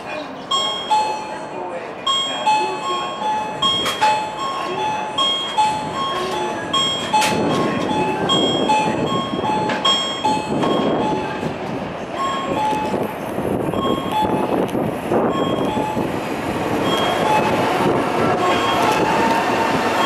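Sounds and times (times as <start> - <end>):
electric train running noise: 2.1 - 20.0.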